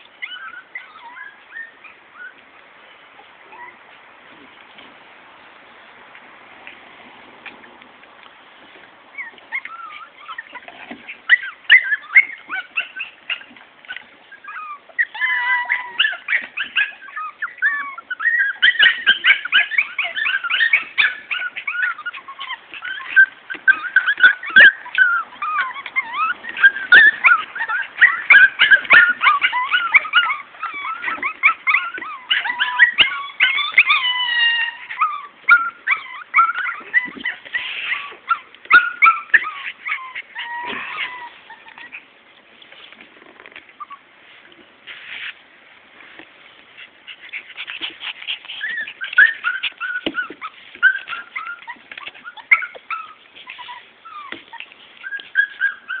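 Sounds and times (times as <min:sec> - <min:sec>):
puppies yipping and whimpering: 0:00.0 - 0:02.4, 0:03.1 - 0:03.8, 0:09.1 - 0:44.1, 0:46.7 - 0:56.0.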